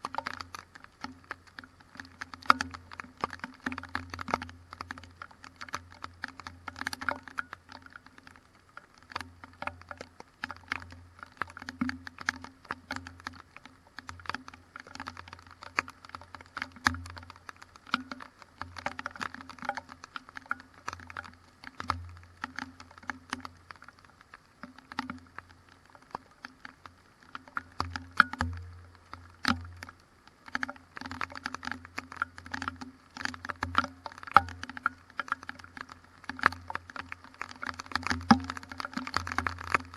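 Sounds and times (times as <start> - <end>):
raindrops tapping: 0.0 - 39.9.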